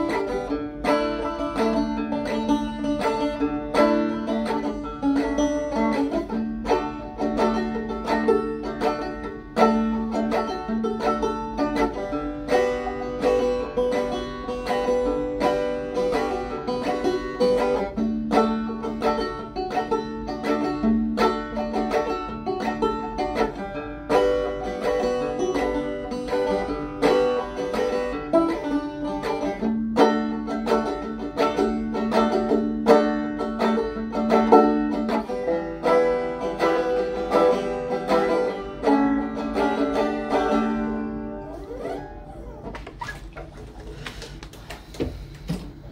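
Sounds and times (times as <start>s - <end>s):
banjo picking a tune: 0.0s - 44.4s.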